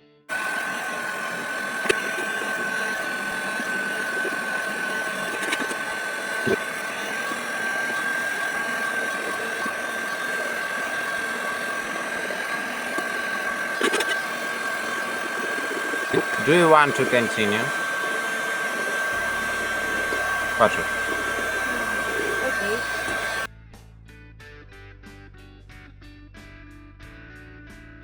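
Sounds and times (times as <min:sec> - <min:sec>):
heat gun fan whine: 0:00.3 - 0:23.5
hot air rushing: 0:00.3 - 0:23.5.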